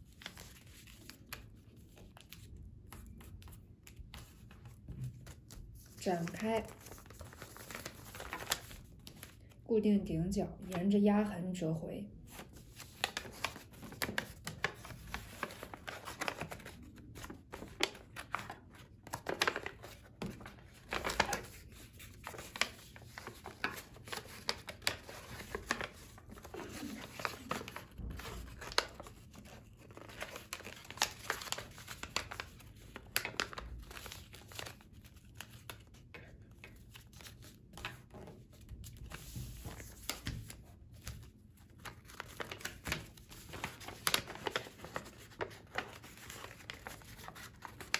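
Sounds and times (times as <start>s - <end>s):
paper crinkling and rustling: 0.0s - 9.6s, 12.3s - 47.9s.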